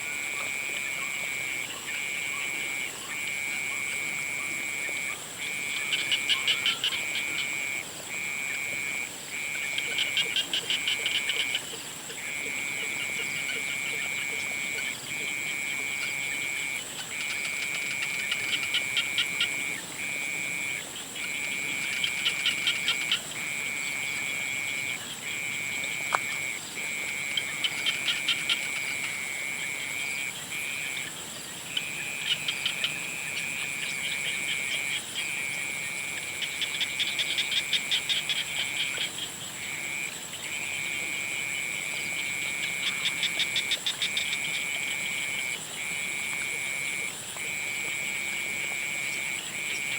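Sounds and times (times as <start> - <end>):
frogs trilling: 0.0 - 49.9
rapid pulsed frog calls: 0.0 - 49.9.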